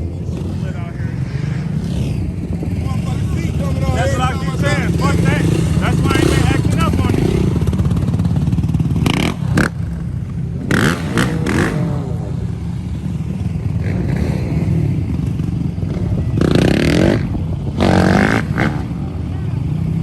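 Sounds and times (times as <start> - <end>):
engine revs: 0.0 - 20.0
quad and dirt bike engines: 0.0 - 20.0.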